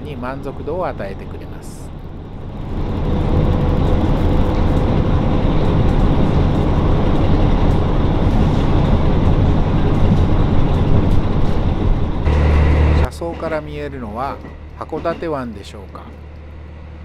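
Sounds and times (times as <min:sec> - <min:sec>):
diesel engine drone: 0:00.0 - 0:17.0
train running gear rumble: 0:00.0 - 0:17.0.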